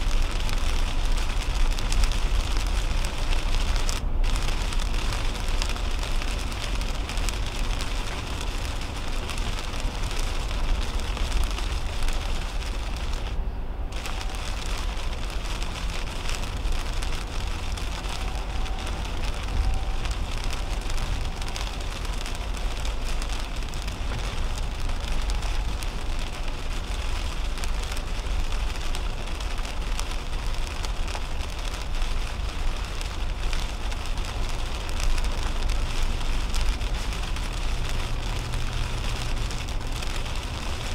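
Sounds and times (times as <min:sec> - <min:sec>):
heavy rain on car windshield: 0:00.0 - 0:40.9
tyres rumbling on wet road: 0:00.0 - 0:40.9.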